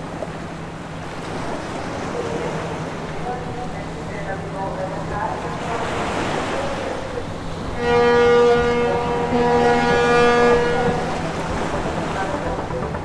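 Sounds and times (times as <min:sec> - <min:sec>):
wind and sea rushing: 0:00.0 - 0:13.0
ship's horn blast: 0:00.8 - 0:13.0.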